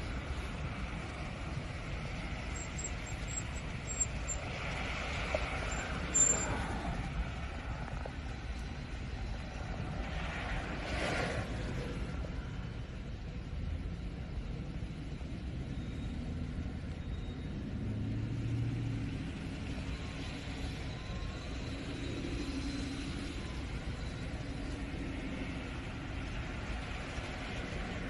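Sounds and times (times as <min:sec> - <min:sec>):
cars driving on wet road: 0:00.0 - 0:28.0.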